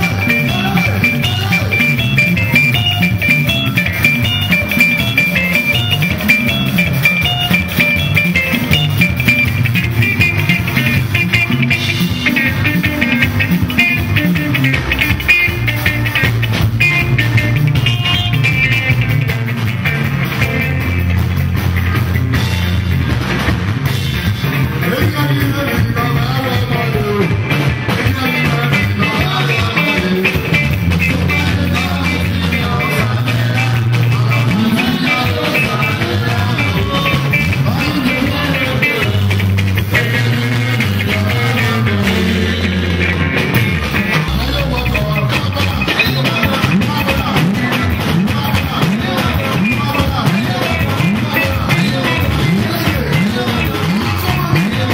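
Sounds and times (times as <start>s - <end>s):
bass line: 0.0s - 54.9s
drum kit beat: 0.0s - 54.9s
electric guitar: 0.0s - 54.9s.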